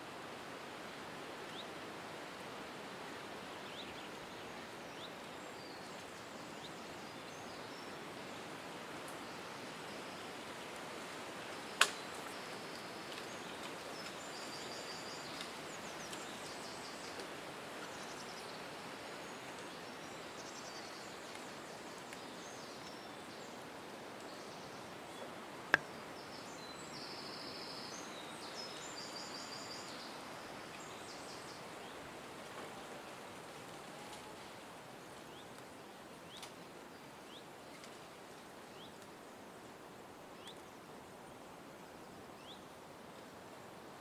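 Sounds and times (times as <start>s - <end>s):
outdoor ambient hiss: 0.0s - 44.0s.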